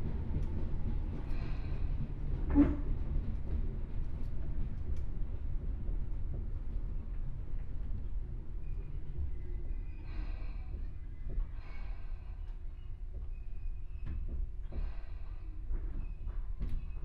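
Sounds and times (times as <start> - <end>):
low rumble of train equipment: 0.0 - 17.0.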